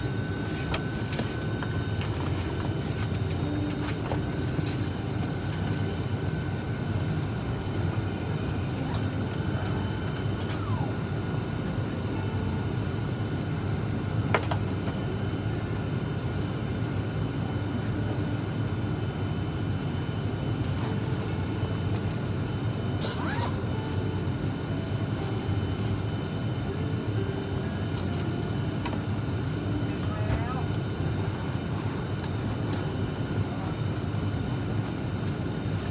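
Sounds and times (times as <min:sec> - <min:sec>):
propeller aircraft engine running: 0:00.0 - 0:35.9.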